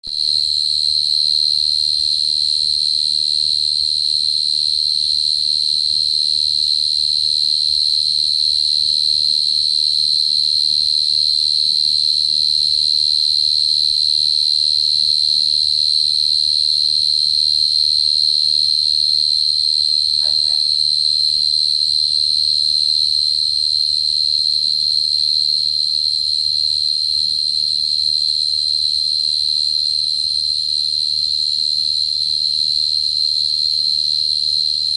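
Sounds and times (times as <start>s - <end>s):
cricket trilling: 0.1s - 34.9s.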